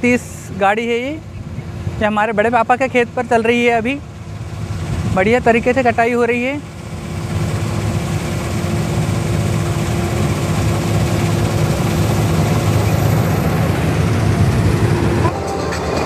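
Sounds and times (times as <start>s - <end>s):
combine harvester engine drone: 0.0s - 16.0s
constant hum: 0.0s - 16.0s.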